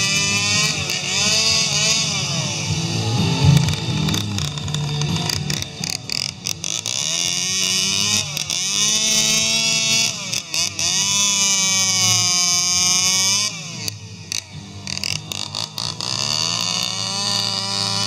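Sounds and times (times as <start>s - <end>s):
chainsaw cutting wooden log: 0.0s - 18.0s.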